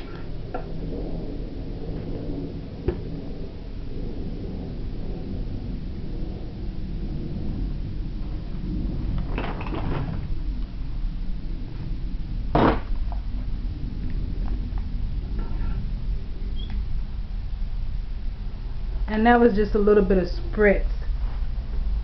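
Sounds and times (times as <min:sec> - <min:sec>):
low room noise rumble: 0:00.0 - 0:22.0.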